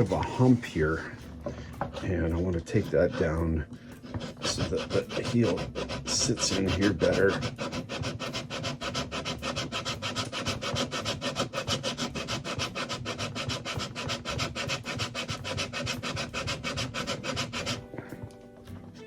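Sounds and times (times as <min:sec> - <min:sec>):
rapid sanding strokes on wood: 0:00.0 - 0:01.2, 0:01.8 - 0:18.1.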